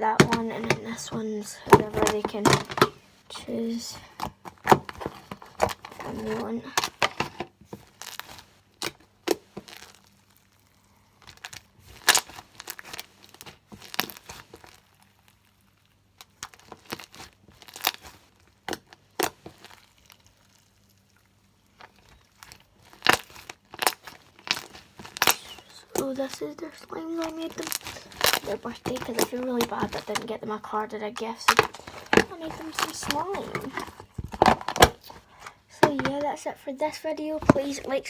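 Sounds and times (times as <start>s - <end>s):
plastic crinkling: 0.0s - 36.4s.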